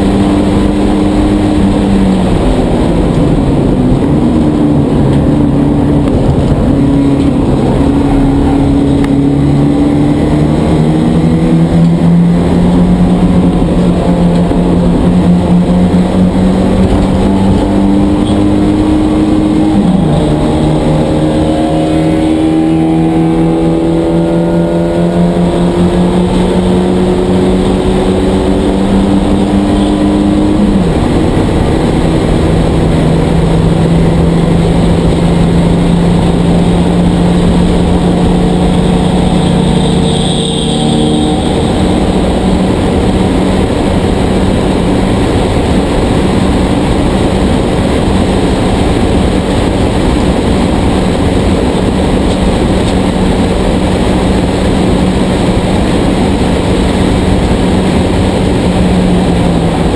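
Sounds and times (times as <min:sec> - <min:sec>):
race car engine at full throttle: 0:00.0 - 0:59.9
wind and road noise: 0:00.0 - 0:59.9.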